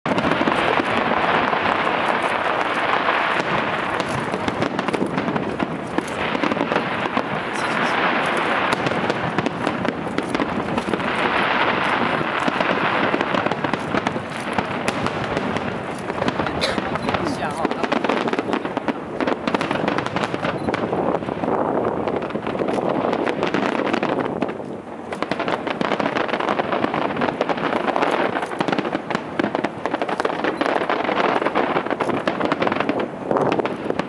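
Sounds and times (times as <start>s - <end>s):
fireworks crackling and bursting: 0.0s - 34.0s.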